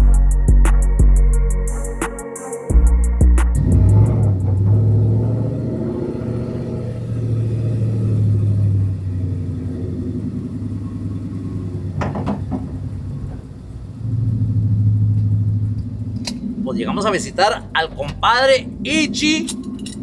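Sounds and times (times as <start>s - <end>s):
truck engine rumbling: 2.7s - 20.0s.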